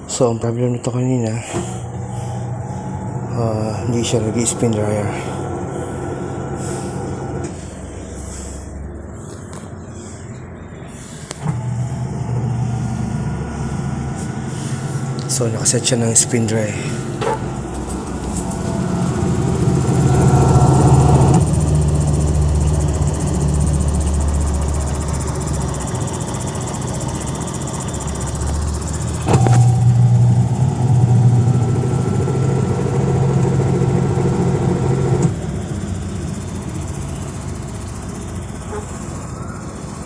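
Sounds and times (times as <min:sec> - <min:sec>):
washing machine motor hum: 0:01.0 - 0:40.0.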